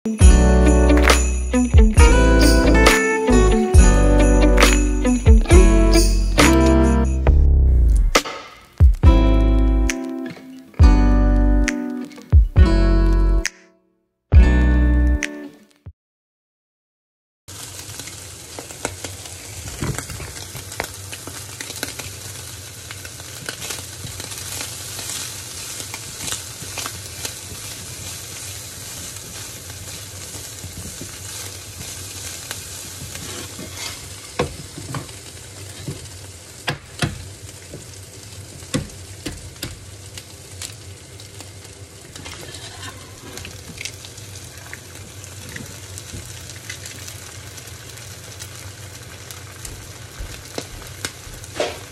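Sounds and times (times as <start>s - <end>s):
food sizzling in a skillet: 0.1s - 7.3s, 17.5s - 51.9s.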